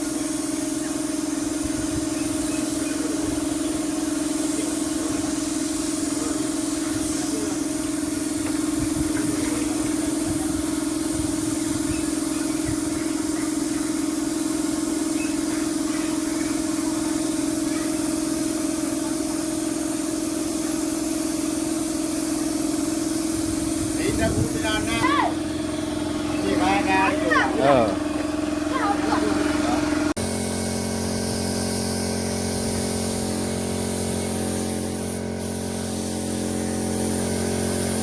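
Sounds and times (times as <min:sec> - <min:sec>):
motor humming with hiss: 0:00.0 - 0:38.0.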